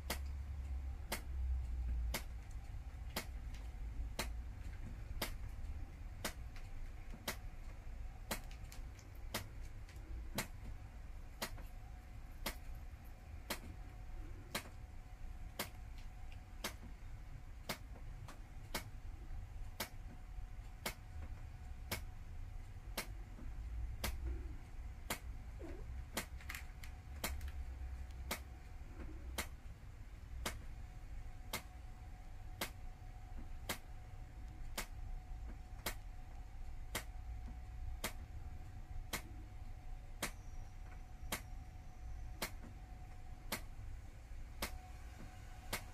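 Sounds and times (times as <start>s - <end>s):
clock ticking: 0.0s - 41.7s, 42.3s - 44.8s
faint steady hum: 0.0s - 45.9s.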